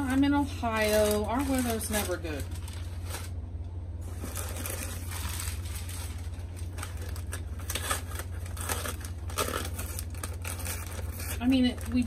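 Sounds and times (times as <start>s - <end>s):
packing paper crumpling: 0.0s - 3.4s, 4.0s - 12.0s.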